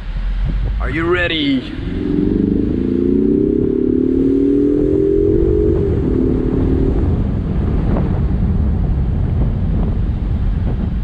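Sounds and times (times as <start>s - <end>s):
car engine accelerating: 0.0s - 11.0s
road rumble: 0.0s - 11.0s
wind noise: 0.0s - 11.0s.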